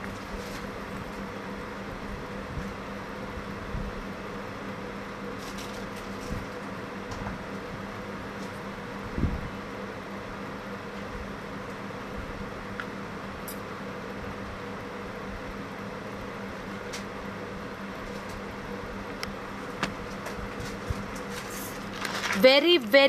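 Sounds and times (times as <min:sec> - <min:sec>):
steady room hum: 0:00.0 - 0:23.0.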